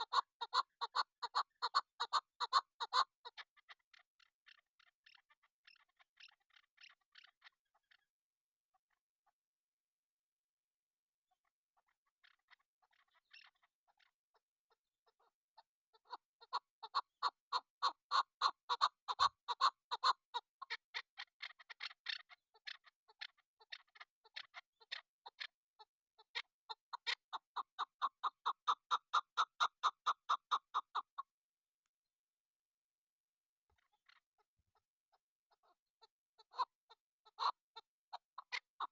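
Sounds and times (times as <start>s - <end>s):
partridge clucking calls: 0.0s - 8.1s, 11.4s - 31.4s, 33.7s - 38.9s.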